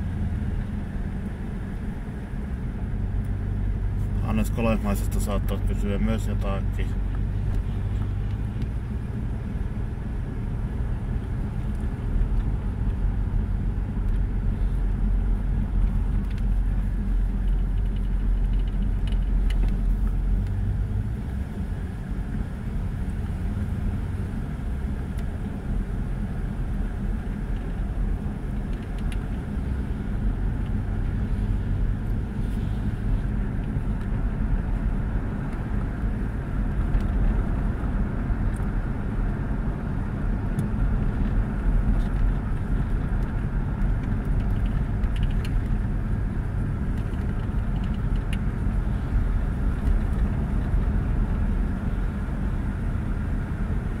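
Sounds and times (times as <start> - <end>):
car engine running: 0.0 - 54.0
tyre and road noise: 0.0 - 54.0.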